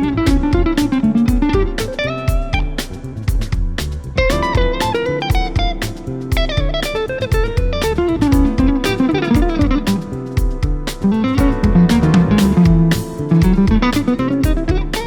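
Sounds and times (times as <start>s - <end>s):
bass guitar: 0.0s - 15.0s
drums: 0.0s - 15.0s.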